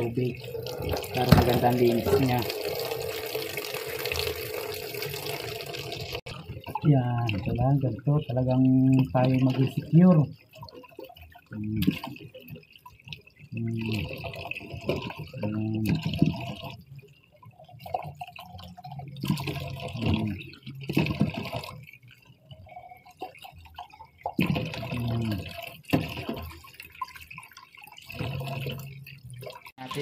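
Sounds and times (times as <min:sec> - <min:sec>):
water splashing in a basin: 0:00.0 - 0:30.0.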